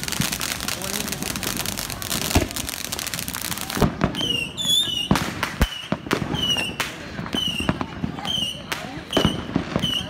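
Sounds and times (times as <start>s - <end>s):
firecracker bangs: 0.0s - 10.0s
firework fountain hissing: 0.0s - 10.0s.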